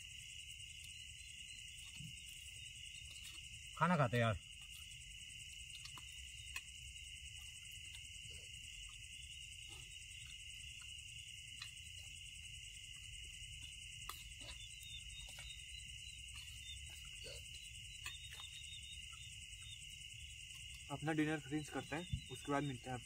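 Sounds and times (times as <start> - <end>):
crickets and insects chirping: 0.0 - 23.0.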